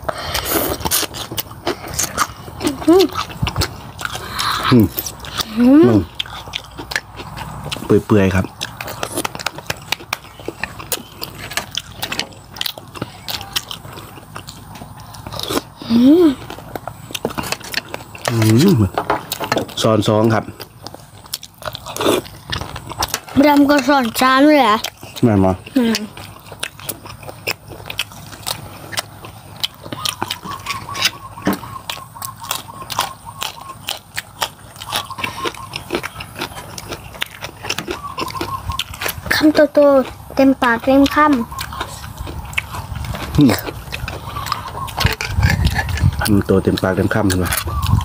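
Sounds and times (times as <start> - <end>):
chewing and biting food: 0.0 - 48.0.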